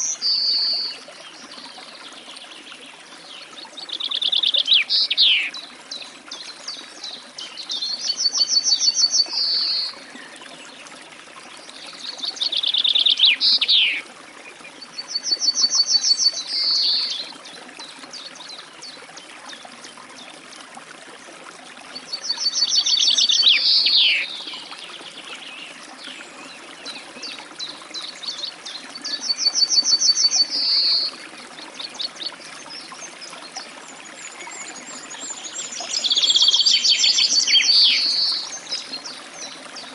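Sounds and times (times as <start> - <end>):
faint bird chirps and ticks: 0.0 - 20.4, 21.2 - 39.9
songbirds singing trills: 0.0 - 20.4, 21.9 - 39.9.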